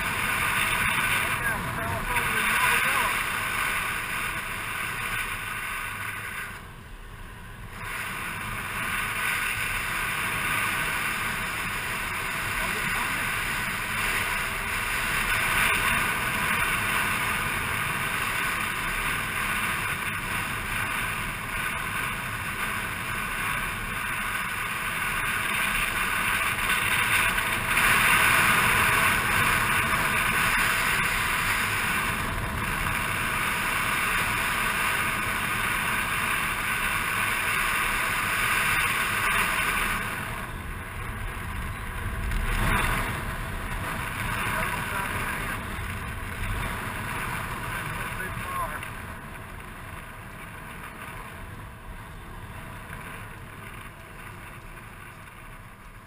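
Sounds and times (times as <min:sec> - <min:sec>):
scooter road noise: 0:00.0 - 0:56.0.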